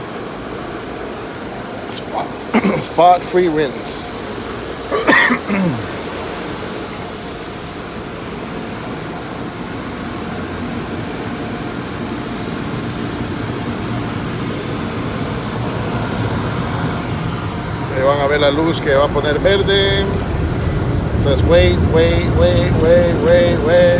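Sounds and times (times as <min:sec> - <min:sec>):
car wash spray rushing: 0:00.0 - 0:23.9.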